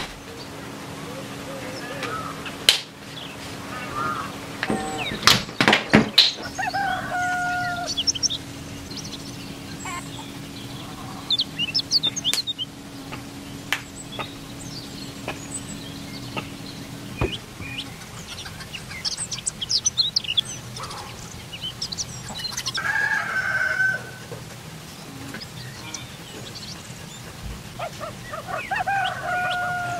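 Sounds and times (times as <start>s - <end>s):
small birds chirping: 0.0s - 29.9s
chicken clucking: 3.3s - 5.4s, 6.0s - 29.9s.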